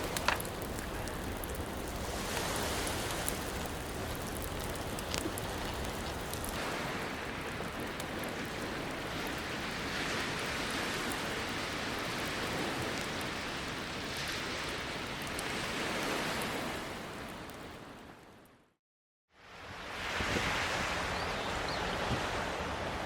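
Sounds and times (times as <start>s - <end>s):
ocean waves washing on shore: 0.0s - 18.3s, 19.4s - 23.0s
campfire crackling: 0.0s - 18.5s.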